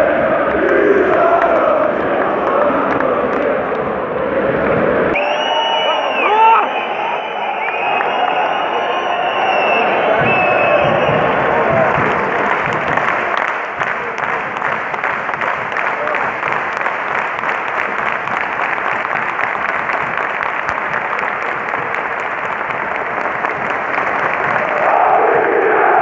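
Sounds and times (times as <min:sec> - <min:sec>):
stadium crowd applause: 0:00.0 - 0:03.9, 0:05.1 - 0:26.0
fans clapping close by: 0:00.0 - 0:26.0.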